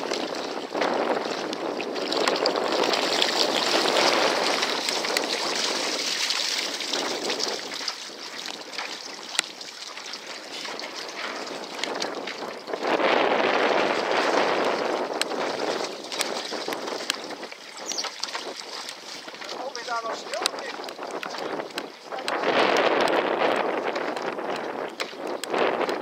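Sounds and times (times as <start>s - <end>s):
gusty wind: 0.0s - 9.6s, 10.2s - 26.0s
choppy lake water: 0.0s - 26.0s.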